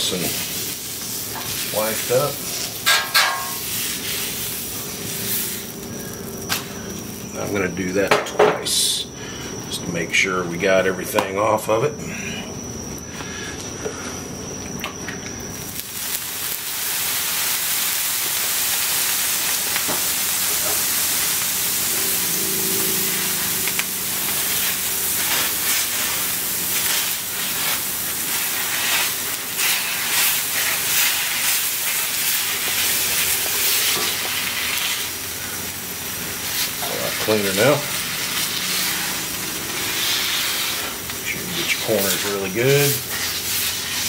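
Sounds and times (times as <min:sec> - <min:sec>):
water sizzling on hot griddle: 0:00.0 - 0:08.9, 0:15.5 - 0:44.0.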